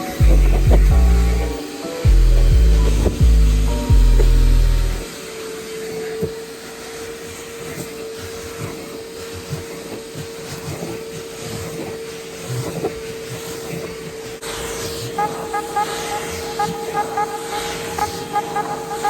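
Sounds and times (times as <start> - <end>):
vacuum cleaner whining: 0.0 - 19.0.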